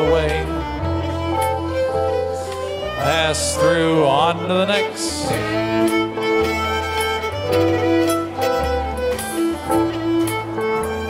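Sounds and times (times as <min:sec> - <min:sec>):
fiddle melody: 0:00.0 - 0:11.0
low bass line: 0:00.0 - 0:11.0.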